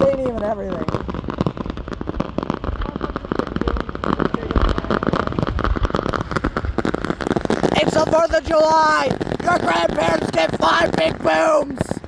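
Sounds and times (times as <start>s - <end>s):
fireworks crackling: 0.0s - 12.0s
fireworks deep booms: 0.0s - 12.0s.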